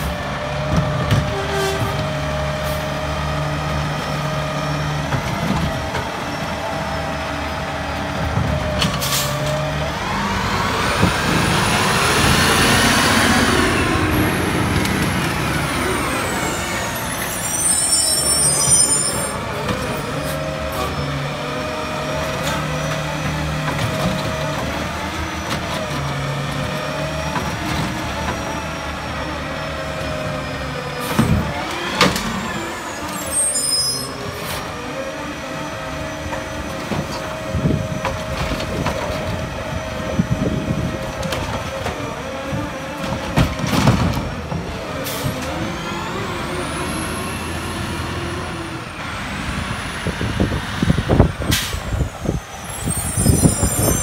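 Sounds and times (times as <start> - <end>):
garbage truck engine and hydraulics: 0.0 - 54.0.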